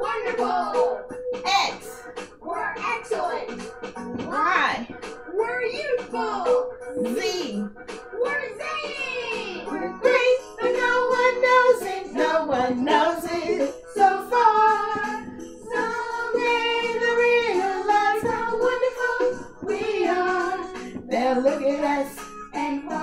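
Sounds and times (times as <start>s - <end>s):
voices singing: 0.0s - 3.6s, 5.9s - 23.0s
upbeat children's song: 0.0s - 23.0s.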